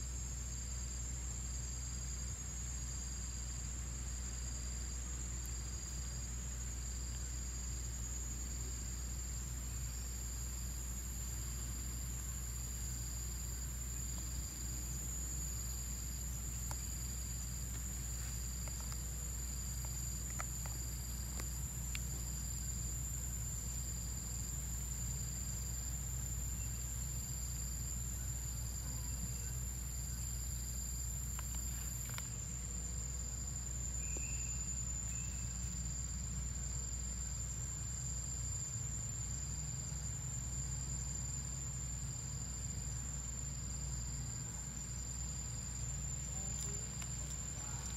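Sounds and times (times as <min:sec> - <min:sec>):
low steady rumble: 0:00.0 - 0:47.9
pulsing insect call: 0:00.0 - 0:47.9
high-pitched insect drone: 0:05.6 - 0:47.9.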